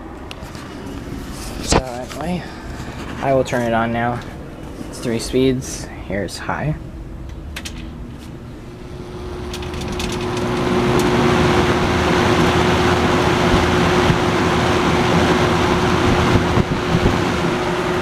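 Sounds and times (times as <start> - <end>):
fan motor hum: 0.0 - 18.0
rush of air from fan: 0.1 - 6.2, 6.8 - 18.0.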